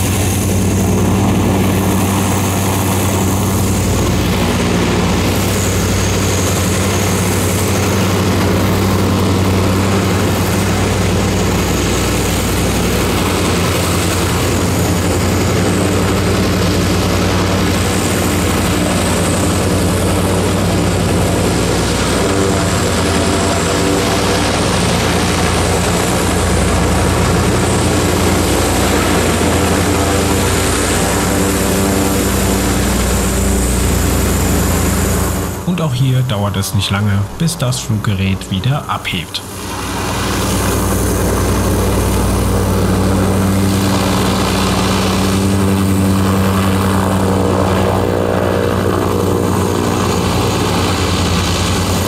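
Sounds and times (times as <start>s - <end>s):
airship propeller engines droning: 0.0s - 52.0s.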